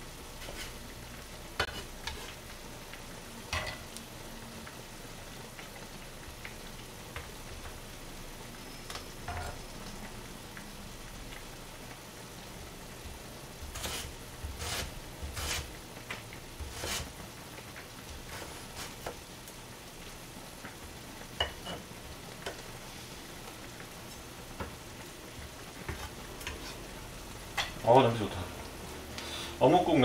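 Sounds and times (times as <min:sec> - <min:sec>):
simmering pot hiss: 0:00.0 - 0:30.0.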